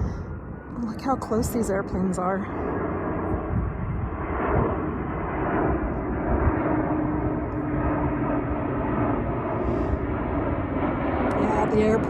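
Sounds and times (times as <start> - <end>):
airplane flying overhead: 0.0 - 12.0.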